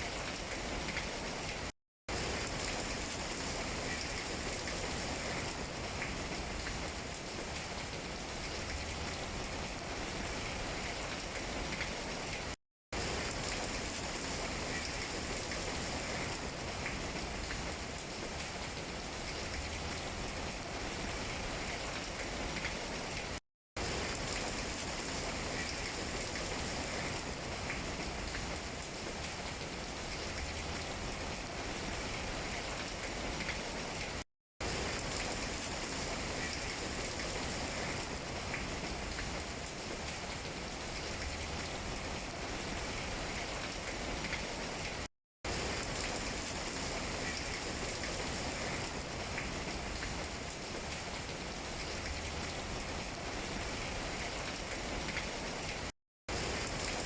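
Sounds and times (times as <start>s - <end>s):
rain on tree leaves: 0.0s - 57.0s.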